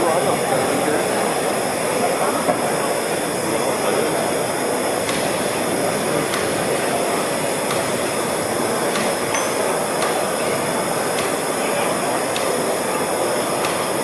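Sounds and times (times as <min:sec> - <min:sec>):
exhibition hall din: 0:00.0 - 0:14.0.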